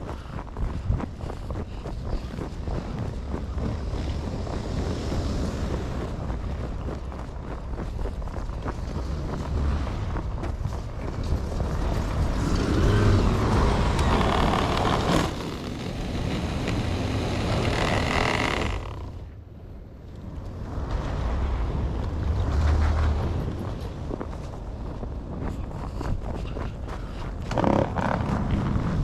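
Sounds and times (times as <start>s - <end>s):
vehicles passing on snowy road: 0.0s - 29.0s
wind rumbling on microphone: 0.0s - 29.0s.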